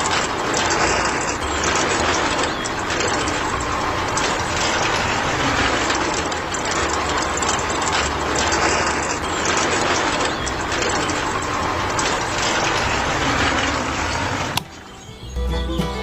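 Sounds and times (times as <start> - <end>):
small motor rattling through gears: 0.0 - 15.3.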